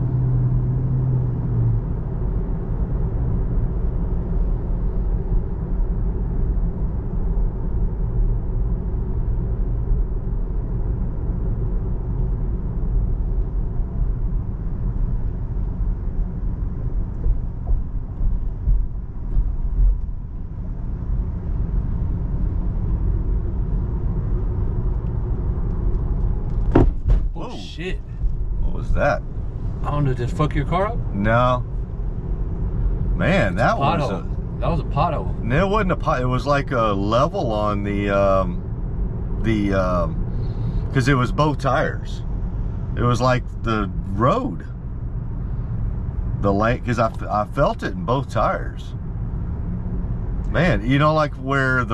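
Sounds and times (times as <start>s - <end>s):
road and tyre rumble in car: 0.0s - 51.9s.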